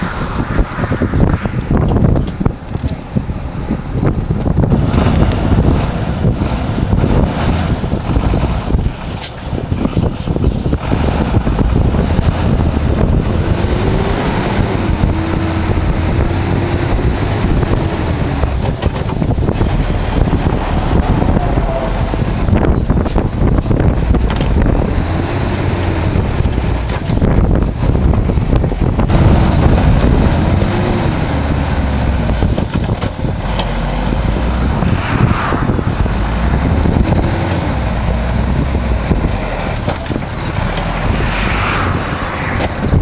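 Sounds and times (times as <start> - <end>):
truck diesel engine rumbling: 0.0 - 43.0.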